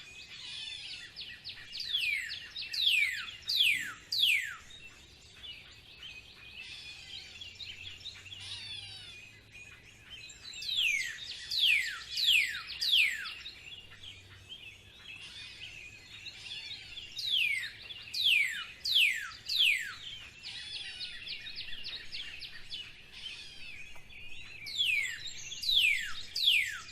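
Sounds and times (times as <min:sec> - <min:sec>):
high bird twittering: 0:00.0 - 0:26.9.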